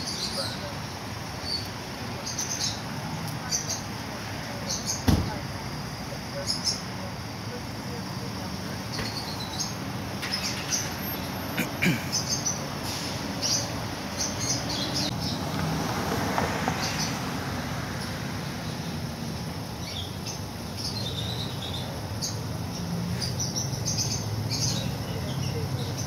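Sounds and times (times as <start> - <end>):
small birds chirping: 0.0 - 5.1, 6.3 - 15.6, 16.7 - 17.2, 17.9 - 26.0.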